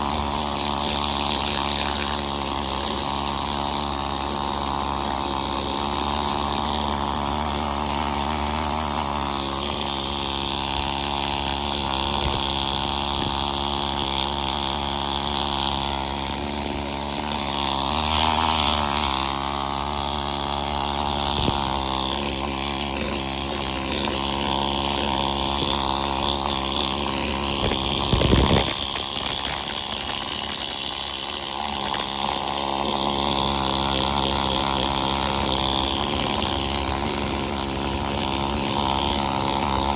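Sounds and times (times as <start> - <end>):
needle scaler buzzing on metal: 0.0 - 39.9.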